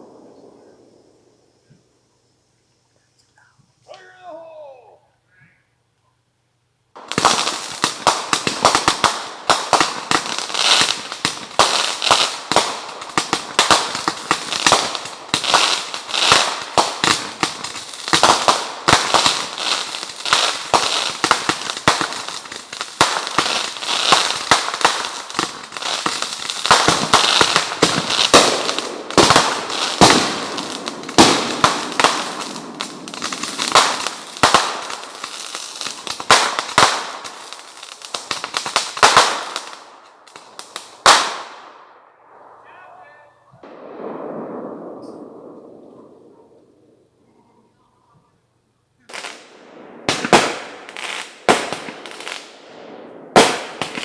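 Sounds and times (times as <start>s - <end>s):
loud firework bangs: 0.0s - 1.7s, 7.0s - 47.3s, 49.1s - 54.0s
fireworks crackling and popping: 0.0s - 4.1s, 6.9s - 48.4s, 49.0s - 54.0s.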